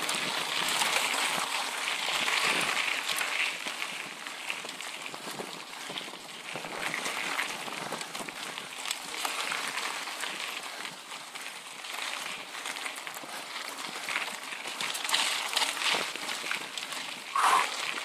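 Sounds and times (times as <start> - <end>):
bike clicks and rattles: 0.0 - 18.0
bike tyres crunching on gravel: 0.0 - 18.0.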